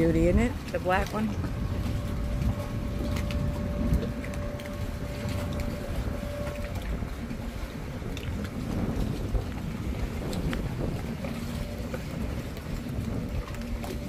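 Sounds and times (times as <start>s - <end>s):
motorboat rumble: 0.0s - 14.0s
steady hum: 0.0s - 14.0s
wind buffeting microphone: 0.0s - 14.0s.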